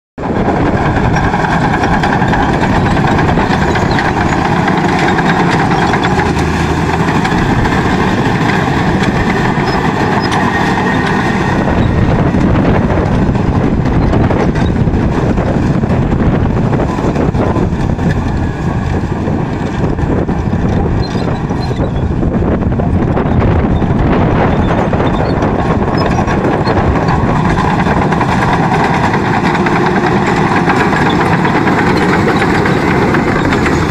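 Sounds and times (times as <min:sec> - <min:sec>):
bulldozer diesel engine running: 0:00.2 - 0:33.9
steel tracks clattering: 0:00.2 - 0:33.9.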